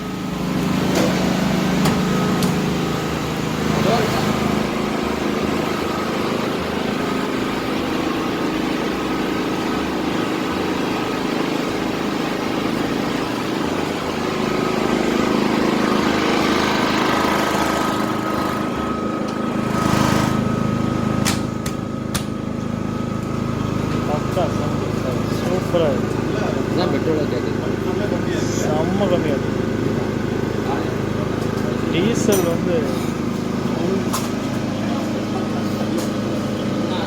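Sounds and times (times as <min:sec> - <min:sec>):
portable generator engine running: 0:00.0 - 0:37.0.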